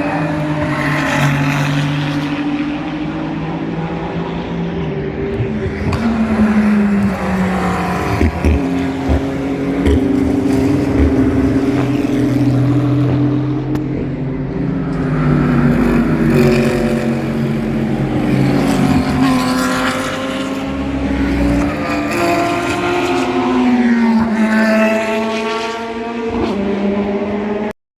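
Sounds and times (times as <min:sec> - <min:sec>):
race car engines passing: 0:00.0 - 0:27.8.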